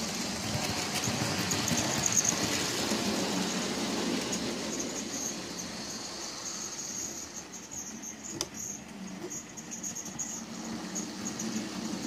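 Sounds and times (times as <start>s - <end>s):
model train motor whine: 0.0s - 12.0s.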